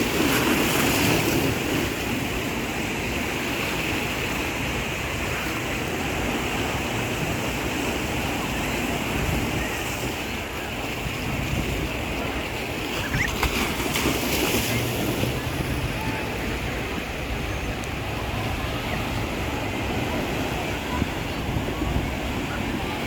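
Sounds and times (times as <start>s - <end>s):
ocean surf rushing: 0.0s - 23.0s.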